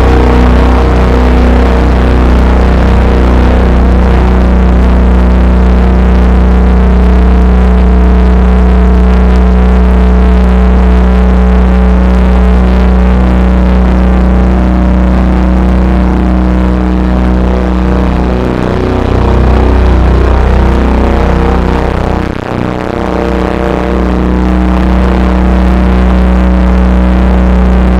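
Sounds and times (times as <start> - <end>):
held steady tones: 0.0 - 27.9
low bass drone: 0.0 - 27.9.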